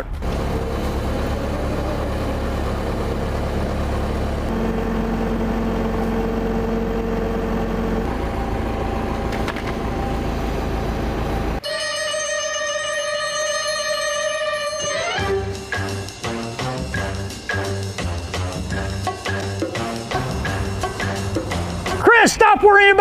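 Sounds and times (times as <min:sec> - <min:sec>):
engine running: 0:00.0 - 0:11.6, 0:15.0 - 0:22.3.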